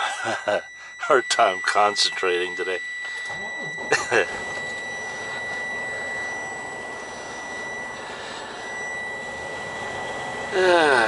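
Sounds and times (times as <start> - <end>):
whine sliding down in pitch: 0.8 - 11.0.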